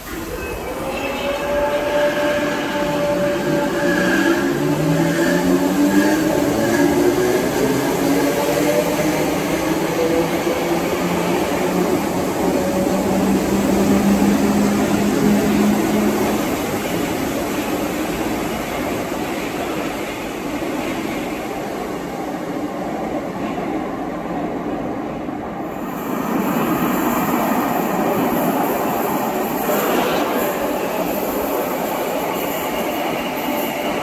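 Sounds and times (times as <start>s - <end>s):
wheels rumbling on rail: 0.0s - 23.8s, 25.6s - 34.0s.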